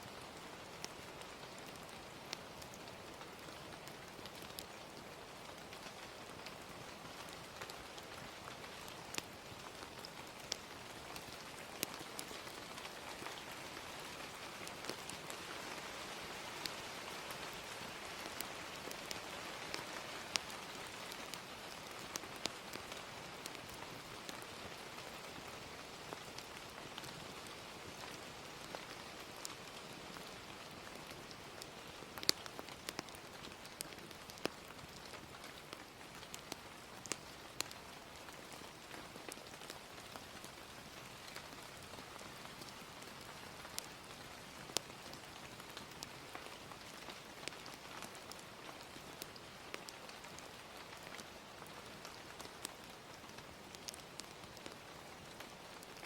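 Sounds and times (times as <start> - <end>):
gentle rain: 0.0 - 56.0
fire crackling and popping: 0.3 - 56.0.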